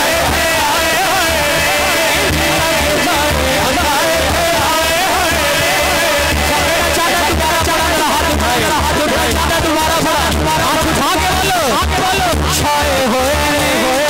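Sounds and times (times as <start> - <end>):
steady low beat: 0.0 - 13.6
man singing into a microphone: 0.0 - 14.0.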